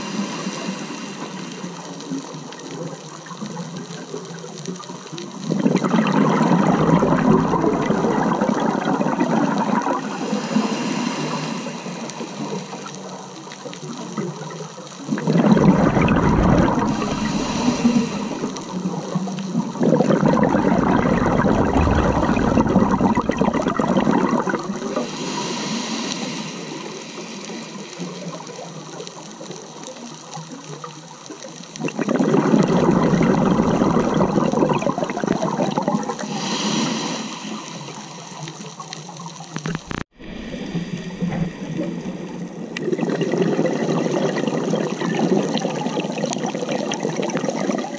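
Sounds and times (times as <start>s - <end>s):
underwater bubbles rushing: 0.0s - 47.9s
underwater water noise: 0.0s - 47.9s.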